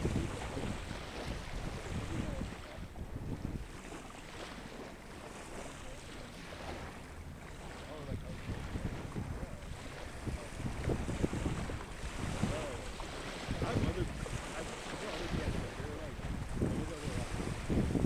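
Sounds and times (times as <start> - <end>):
surf: 0.0 - 18.0
wind buffeting microphone: 0.0 - 18.0.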